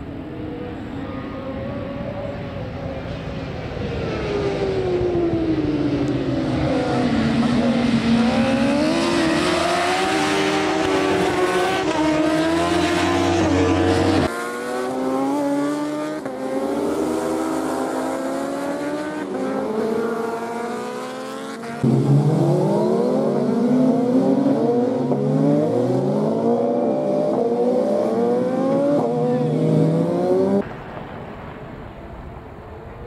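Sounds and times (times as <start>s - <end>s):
racing motorcycle engines revving: 0.4s - 30.6s.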